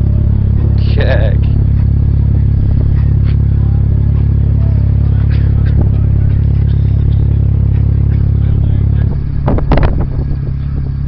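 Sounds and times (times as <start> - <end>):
loud deep bass from subwoofer: 0.0 - 11.0.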